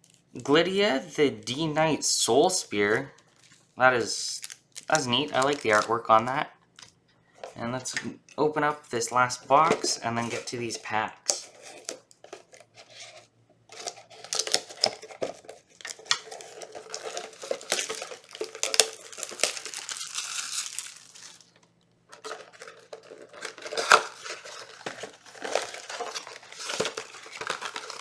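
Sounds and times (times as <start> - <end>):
packaging crinkling and tearing: 2.8 - 7.0, 8.9 - 28.0.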